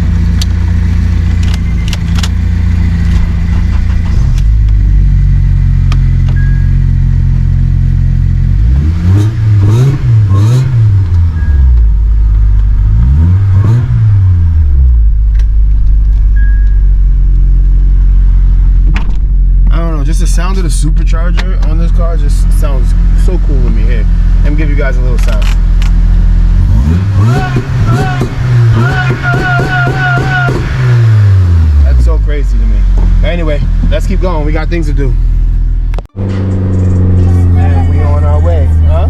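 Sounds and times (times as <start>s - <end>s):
engine revving: 0.0s - 18.9s, 21.8s - 39.0s.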